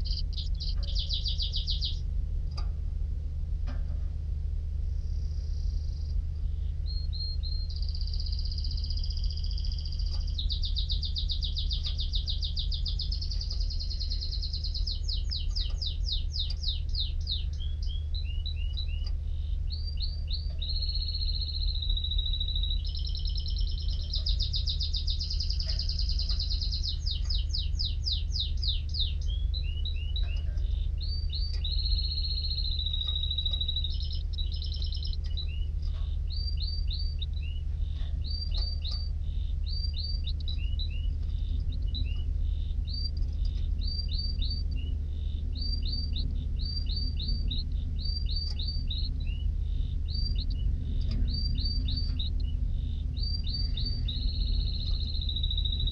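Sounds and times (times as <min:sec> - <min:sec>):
canary singing: 0:00.0 - 0:02.0, 0:05.0 - 0:55.9
steady low hum: 0:00.0 - 0:55.9.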